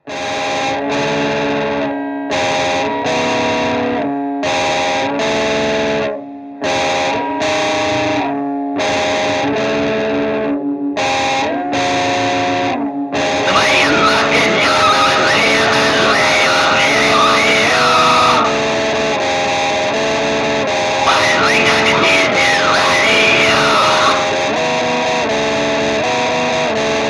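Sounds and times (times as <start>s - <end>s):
distorted electric guitar chords: 0.0s - 27.0s.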